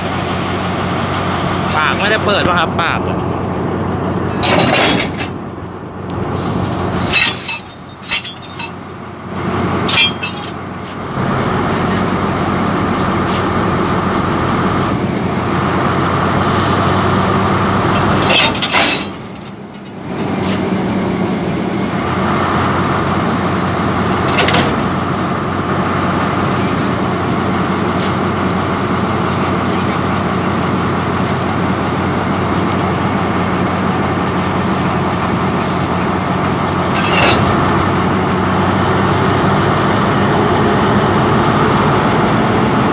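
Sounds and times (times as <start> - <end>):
diesel locomotive idling: 0.0 - 42.9.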